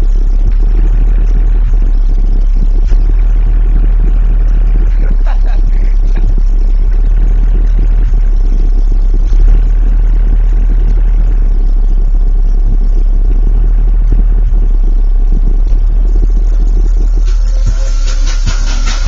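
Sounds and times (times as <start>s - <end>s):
distorted deep bass rumble: 0.0s - 19.0s.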